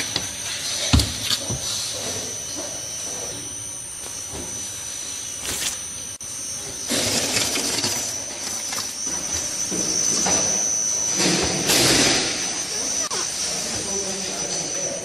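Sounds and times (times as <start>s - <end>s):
hose pump running with whine: 0.0s - 15.0s.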